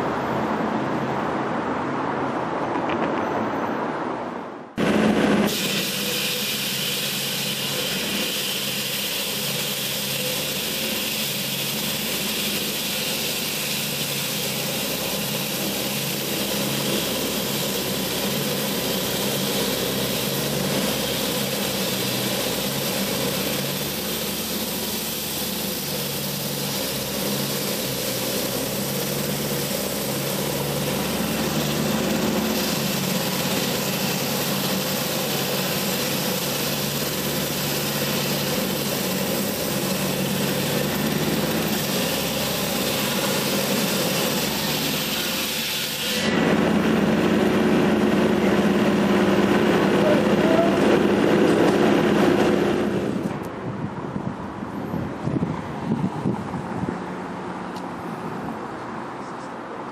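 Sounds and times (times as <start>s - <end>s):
vehicles passing: 0.0s - 5.5s, 11.2s - 45.1s, 46.2s - 59.9s
traffic engine hum: 0.0s - 59.9s.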